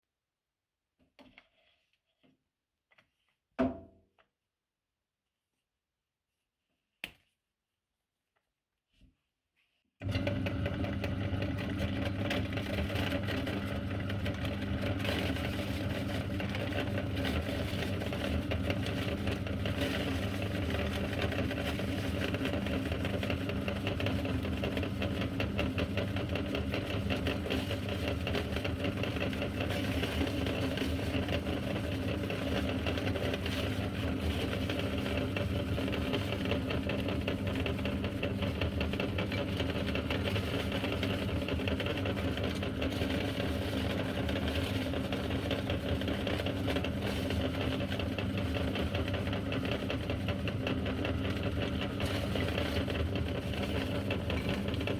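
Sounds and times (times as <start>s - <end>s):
cookies crackling in grinder: 10.0s - 54.9s
meat grinder motor humming: 10.0s - 54.9s.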